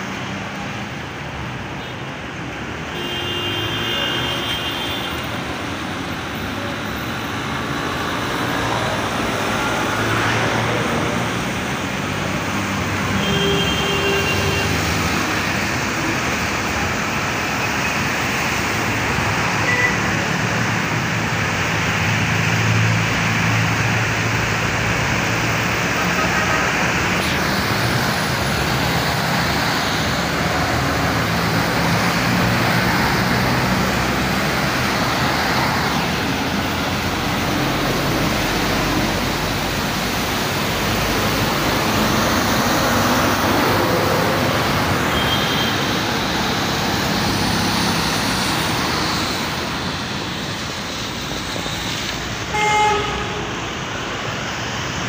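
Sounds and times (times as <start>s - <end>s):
tyres hissing on wet road: 0.0s - 55.0s
passing car engines: 5.2s - 13.2s, 14.2s - 55.0s.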